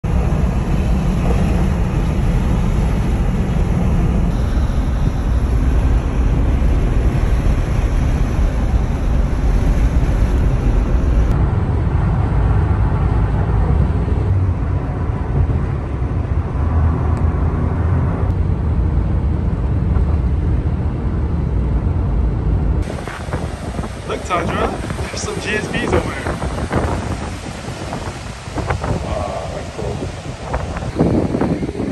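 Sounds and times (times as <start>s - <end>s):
road and tyre noise in car: 0.0s - 31.9s.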